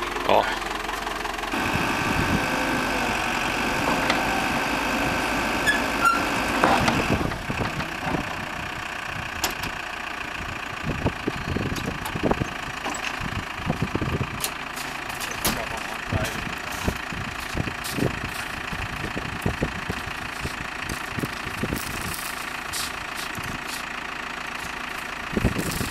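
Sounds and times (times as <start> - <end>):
loader engine whining under load: 0.0 - 25.9.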